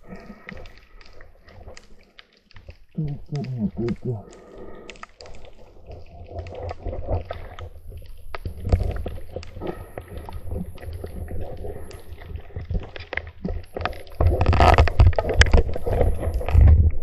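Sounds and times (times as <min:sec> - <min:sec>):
water rushing and gurgling underwater: 0:00.0 - 0:17.0.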